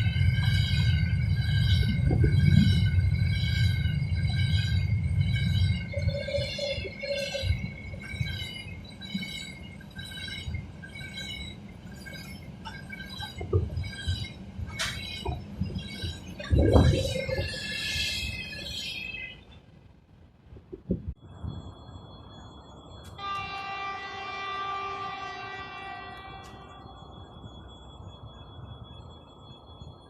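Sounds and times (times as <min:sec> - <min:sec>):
train wagons squealing: 0:00.0 - 0:19.6, 0:22.3 - 0:30.0
train low rumble: 0:00.0 - 0:30.0.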